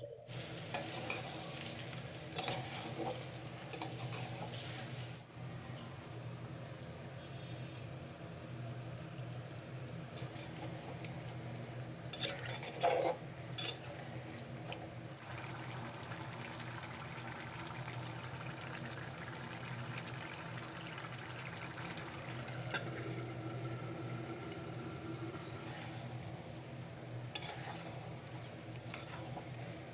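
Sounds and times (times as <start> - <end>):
liquid simmering and sizzling: 0.0 - 5.3, 7.6 - 29.9
water pouring into a pot: 0.2 - 5.3, 8.1 - 12.9, 13.6 - 29.9.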